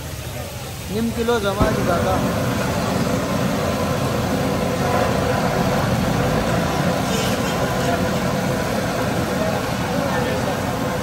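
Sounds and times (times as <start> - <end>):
crowd chatter: 0.0 - 11.0
traffic noise: 0.0 - 11.0.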